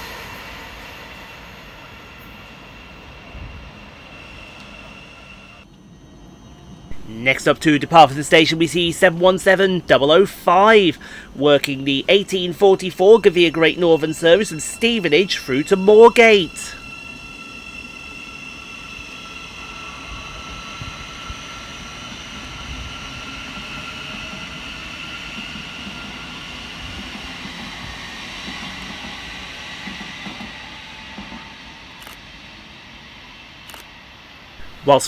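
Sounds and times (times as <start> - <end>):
electric train motors whining: 0.0 - 35.0
train rumble: 0.0 - 35.0.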